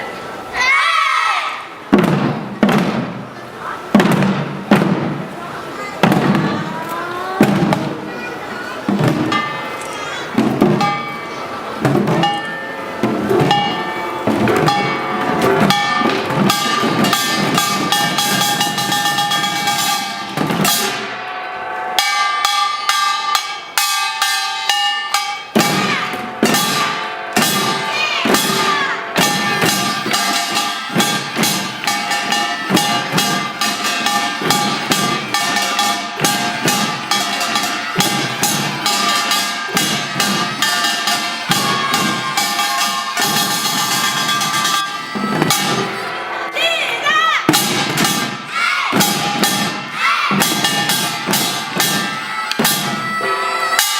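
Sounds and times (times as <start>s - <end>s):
drum strokes: 1.8s - 53.9s
small gongs clanging: 8.9s - 46.6s, 47.5s - 53.9s.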